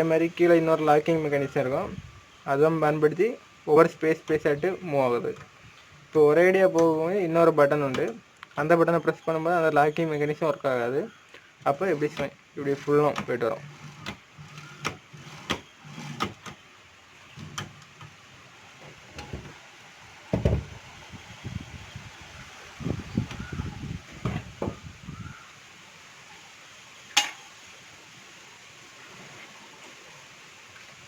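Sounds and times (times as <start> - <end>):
room tone hiss: 0.0 - 31.0.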